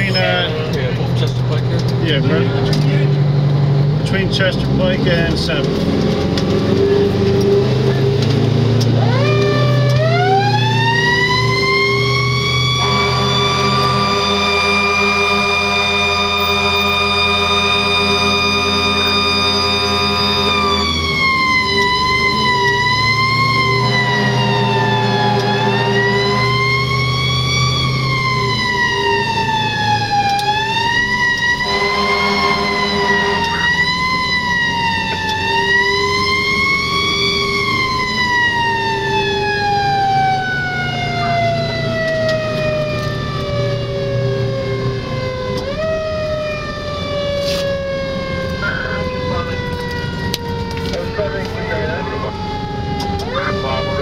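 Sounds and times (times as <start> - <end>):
fire engine siren wailing: 0.0 - 54.0
truck engine running: 0.0 - 54.0.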